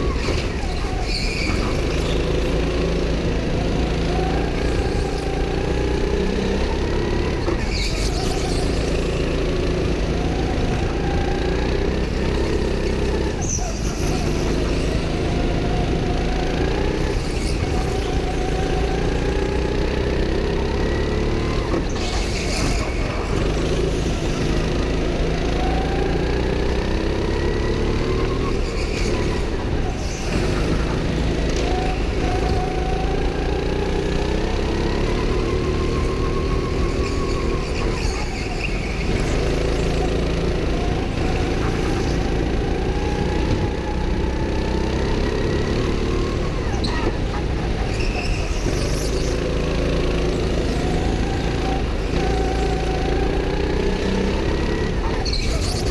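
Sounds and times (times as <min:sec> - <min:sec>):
go-kart engine: 0:00.0 - 0:55.9.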